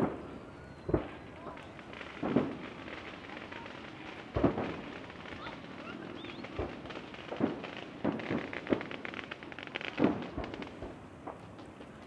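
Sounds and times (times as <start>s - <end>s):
firework booms: 0.0s - 11.9s
firework crackling: 0.0s - 12.0s.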